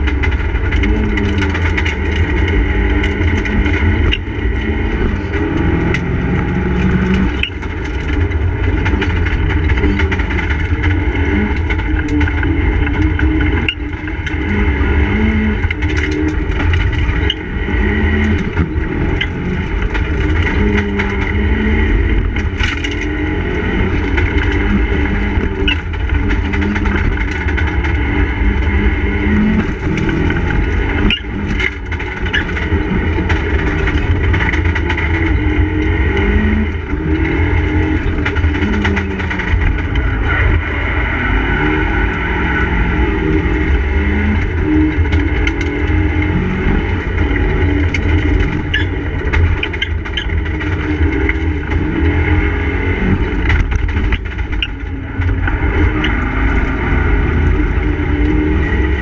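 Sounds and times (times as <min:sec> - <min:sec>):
car engine revving: 0:00.0 - 0:59.0
road and drivetrain noise: 0:00.0 - 0:59.0.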